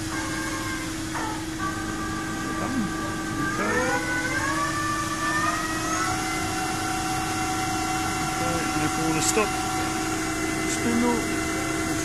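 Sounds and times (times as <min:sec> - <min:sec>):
lathe spindle humming and whining: 0:00.0 - 0:12.0.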